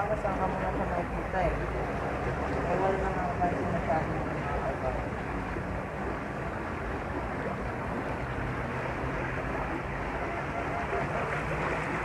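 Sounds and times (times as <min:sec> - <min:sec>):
seawater washing around rocks: 0:00.0 - 0:12.0
wind: 0:00.0 - 0:12.0.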